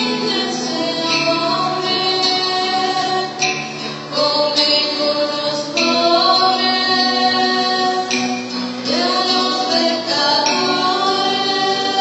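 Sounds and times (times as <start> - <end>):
choir singing held notes: 0.0 - 12.0
instrumental accompaniment: 0.0 - 12.0.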